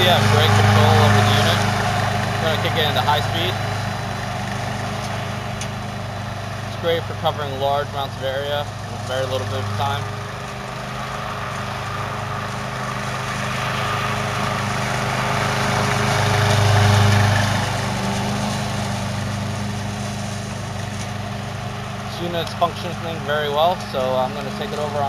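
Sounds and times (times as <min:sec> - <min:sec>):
mower engine humming: 0:00.0 - 0:25.0.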